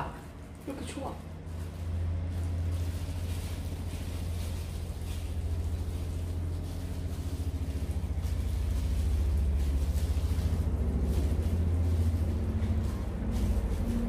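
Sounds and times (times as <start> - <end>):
plastic gloves crinkling: 0.0 - 14.0
steady low hum: 0.0 - 14.0.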